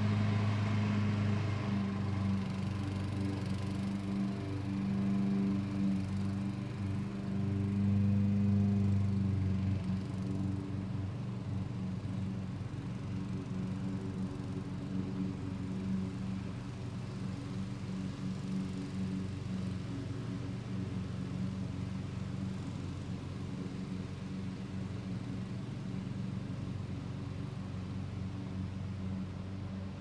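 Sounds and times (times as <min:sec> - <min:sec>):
lawn mower engine humming: 0:00.0 - 0:30.0.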